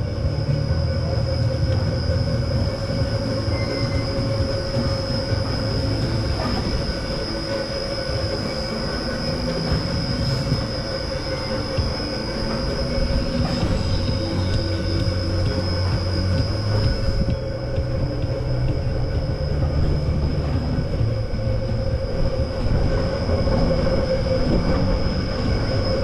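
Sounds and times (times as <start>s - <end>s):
carousel platform rumble: 0.0s - 26.0s
high-pitched whine: 0.0s - 26.0s
low steady hum: 0.0s - 26.0s.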